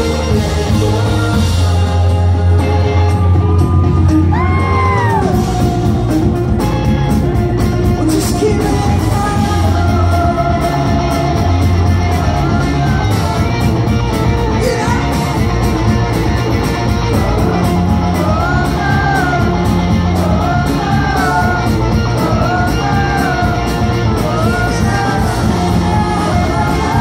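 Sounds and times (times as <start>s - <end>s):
live rock band playing: 0.0s - 27.0s
steady drum beat: 0.0s - 27.0s.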